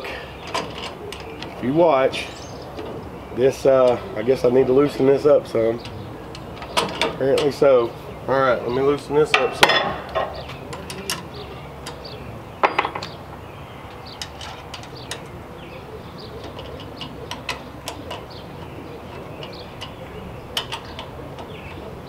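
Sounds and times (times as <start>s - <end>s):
metal brackets clanking: 0.0s - 22.0s.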